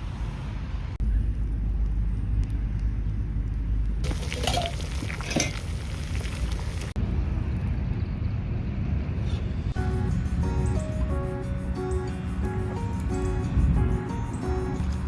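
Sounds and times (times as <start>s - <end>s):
wind rumble on microphone: 0.0s - 15.0s
campfire crackling and hissing: 0.1s - 15.0s.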